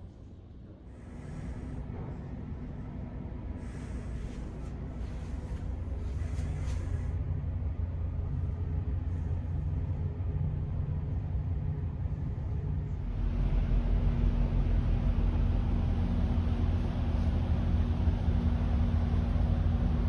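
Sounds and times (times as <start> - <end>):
ship engines rumbling: 0.0 - 20.0
steady hum: 0.0 - 20.0.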